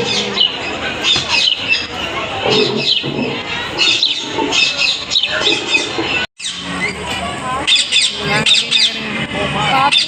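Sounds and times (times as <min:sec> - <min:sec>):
birds chirping and squawking: 0:00.0 - 0:10.0
crowd murmur: 0:00.0 - 0:10.0.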